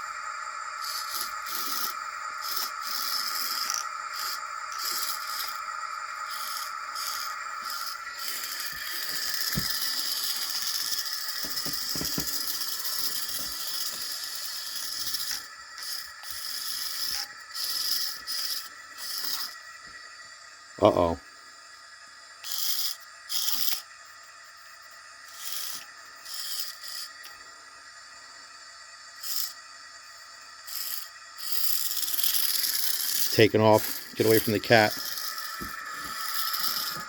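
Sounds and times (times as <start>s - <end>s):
small electric motor whining: 0.0s - 20.2s, 20.8s - 37.0s.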